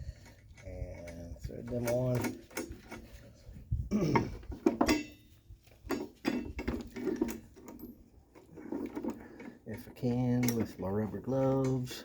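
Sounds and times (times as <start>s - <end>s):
metal clinks and scrapes: 0.0s - 3.6s, 4.4s - 12.0s.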